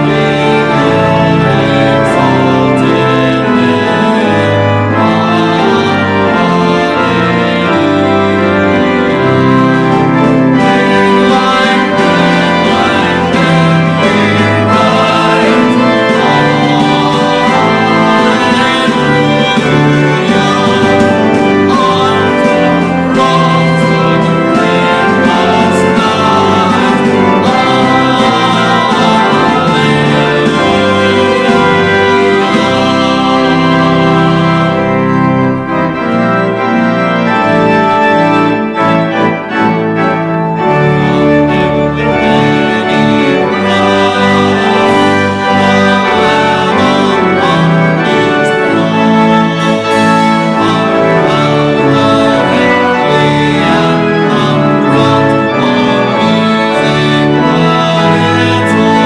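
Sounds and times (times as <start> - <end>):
church organ playing a hymn: 0.0 - 59.0.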